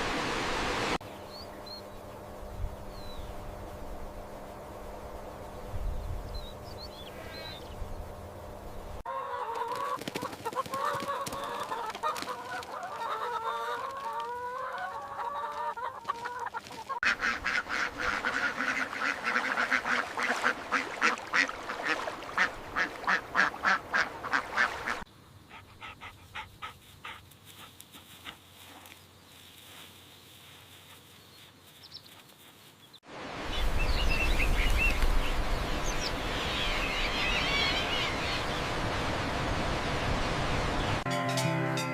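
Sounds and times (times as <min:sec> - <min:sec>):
birds calling: 0:01.0 - 0:04.7, 0:05.4 - 0:27.2, 0:28.0 - 0:41.0.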